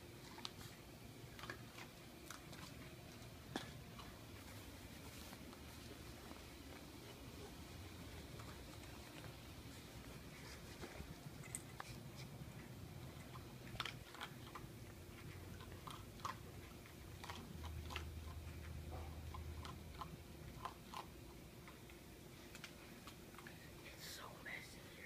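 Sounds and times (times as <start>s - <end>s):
dog crunching food: 0.0s - 23.8s.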